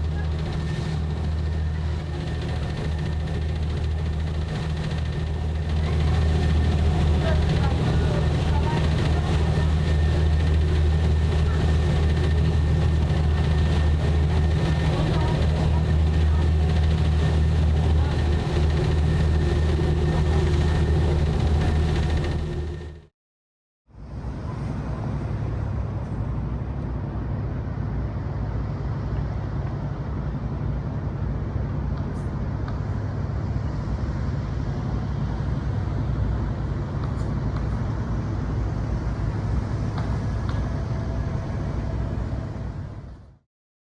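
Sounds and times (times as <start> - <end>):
rumble of engines and traffic: 0.0 - 23.1, 24.1 - 43.2.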